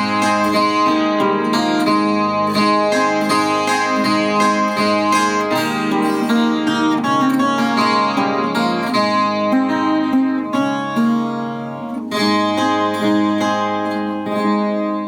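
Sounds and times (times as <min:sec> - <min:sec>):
plucked guitar notes: 0:00.0 - 0:15.0
ringing guitar chord: 0:00.0 - 0:15.0.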